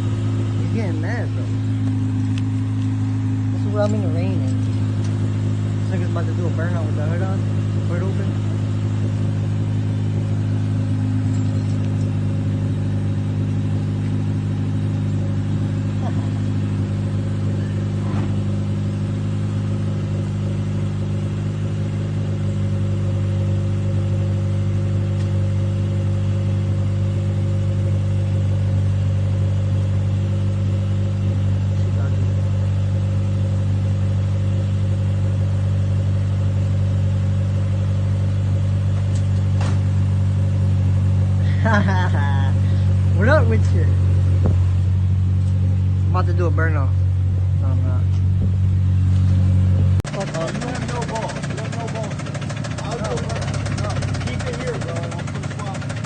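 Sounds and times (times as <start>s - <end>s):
car engine idling with knocking: 0.0s - 56.0s.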